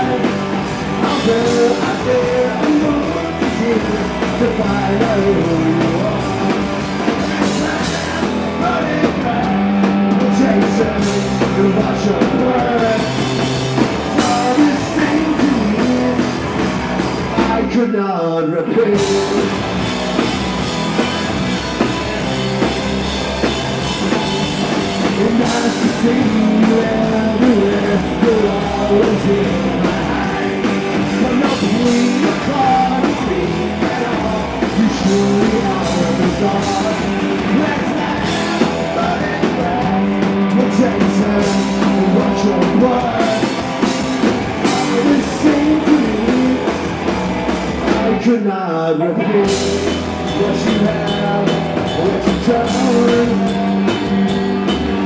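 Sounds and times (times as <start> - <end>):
man singing into microphone: 0.0 - 13.5, 14.1 - 16.4, 17.4 - 19.6, 25.1 - 43.8, 44.6 - 46.7, 47.8 - 53.9
drum kit: 0.0 - 17.8, 18.8 - 48.3, 49.3 - 55.0
electric guitars: 0.0 - 17.9, 18.5 - 55.0
bass guitar: 0.0 - 55.0.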